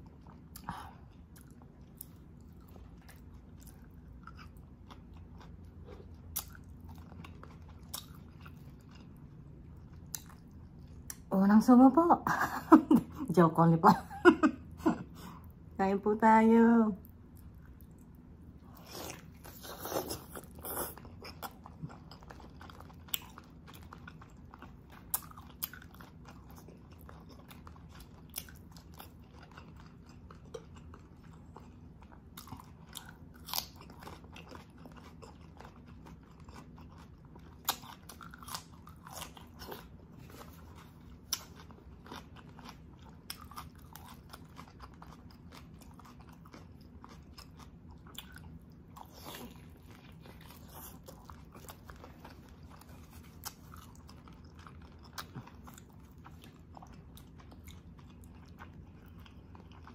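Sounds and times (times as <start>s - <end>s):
person chewing and sucking meat: 0.0s - 11.2s, 17.0s - 59.9s
steady low hum: 0.0s - 59.9s.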